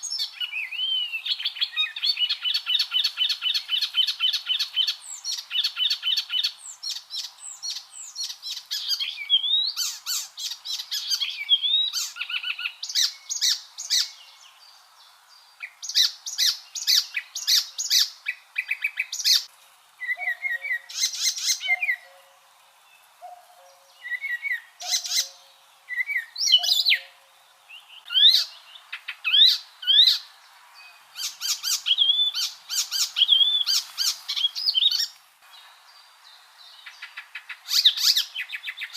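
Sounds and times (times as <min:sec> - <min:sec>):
warbler singing: 0:00.0 - 0:38.9.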